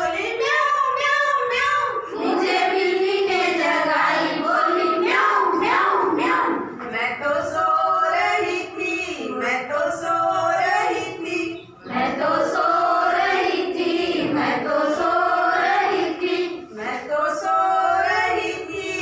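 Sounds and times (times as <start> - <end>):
women singing in unison: 0.0 - 19.0.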